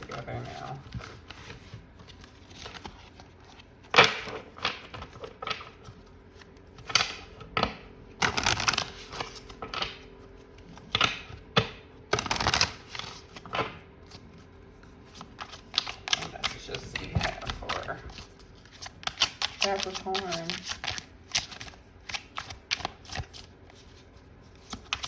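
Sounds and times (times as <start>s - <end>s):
cards being shuffled: 0.0s - 25.0s.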